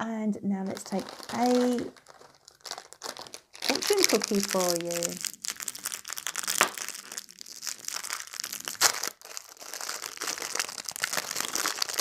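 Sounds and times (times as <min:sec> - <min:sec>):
plastic wrapper crinkling and tearing: 0:00.6 - 0:12.0.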